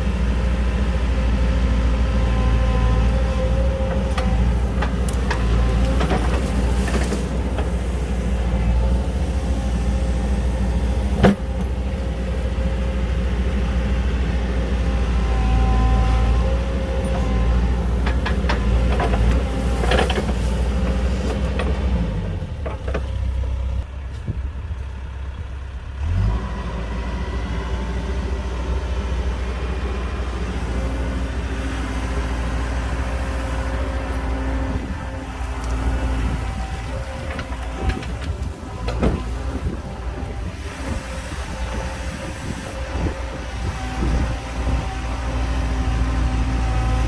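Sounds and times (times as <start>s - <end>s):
diesel machinery engine drone: 0.0s - 47.0s.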